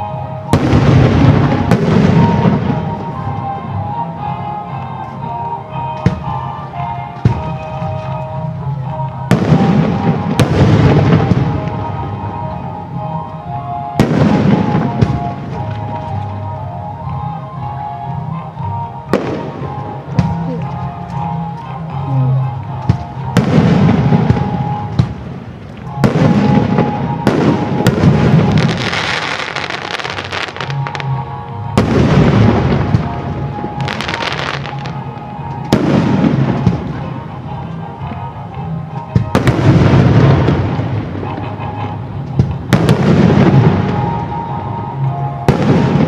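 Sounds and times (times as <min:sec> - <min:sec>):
fireworks exploding with echo: 0:00.0 - 0:46.0.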